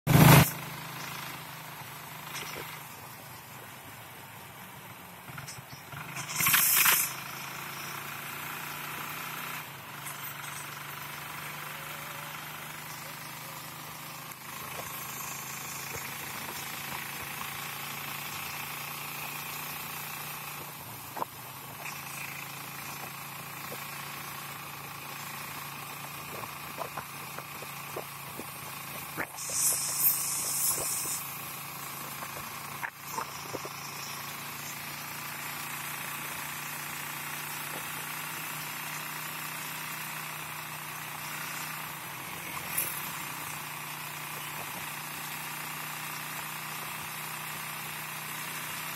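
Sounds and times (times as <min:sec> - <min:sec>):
motorcycle engine droning: 0:00.1 - 0:48.9
road noise: 0:00.1 - 0:48.9.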